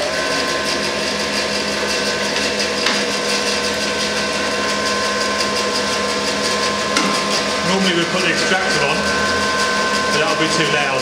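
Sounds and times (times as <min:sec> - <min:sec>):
bandsaw running: 0:00.0 - 0:11.0.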